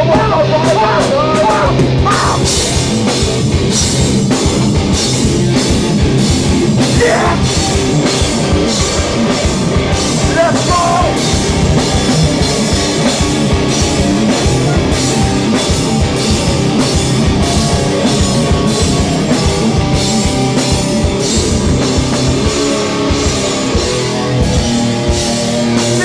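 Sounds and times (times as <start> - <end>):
bass guitar: 0.0 - 26.0
distorted guitars: 0.0 - 26.0
drum kit pounding: 0.0 - 26.0.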